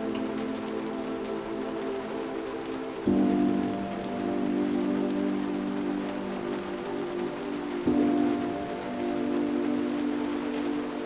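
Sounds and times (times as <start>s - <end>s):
soft ambient music chords: 0.0s - 11.0s
steady rain falling: 0.0s - 11.0s.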